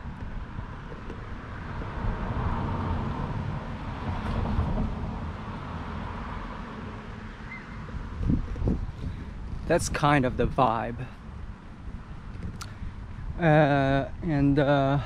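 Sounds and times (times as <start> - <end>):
car passing: 0.0 - 12.2.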